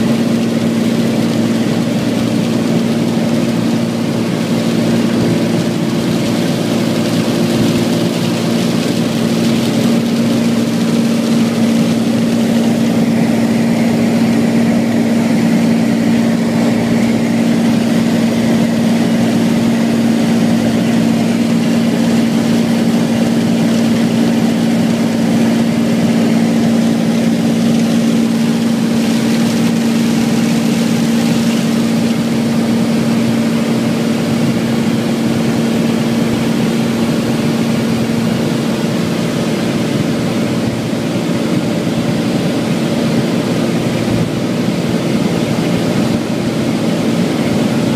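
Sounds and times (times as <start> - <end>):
airplane engine and propeller droning: 0.0 - 47.9.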